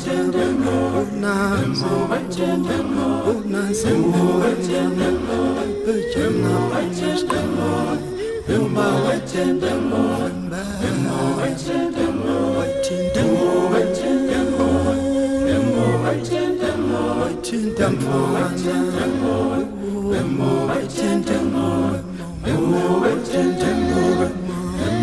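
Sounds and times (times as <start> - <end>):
a cappella choir singing: 0.0 - 25.0.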